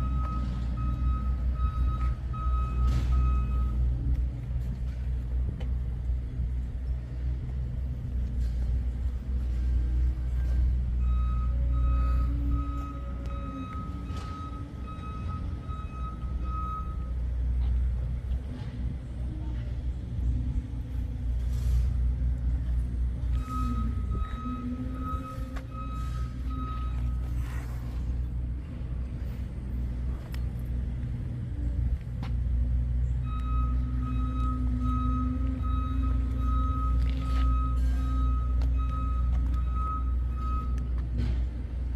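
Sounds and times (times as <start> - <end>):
engine rumble: 0.0 - 41.9.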